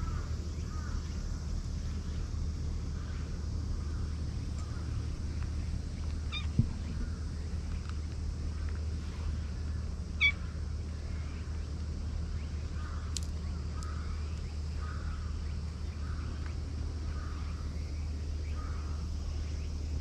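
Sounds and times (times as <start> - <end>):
faint calls: 0.0 - 20.0
low outdoor rumble: 0.0 - 20.0.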